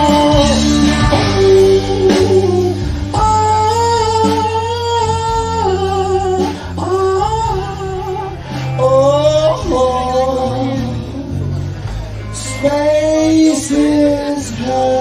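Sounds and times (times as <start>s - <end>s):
drums: 0.0s - 15.0s
electric guitar: 0.0s - 15.0s.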